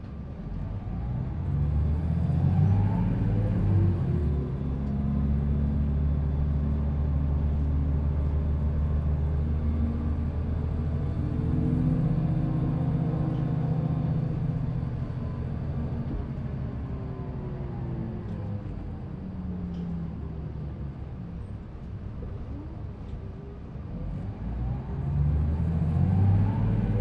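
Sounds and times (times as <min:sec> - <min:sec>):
bus diesel engine drone: 0:00.0 - 0:27.0.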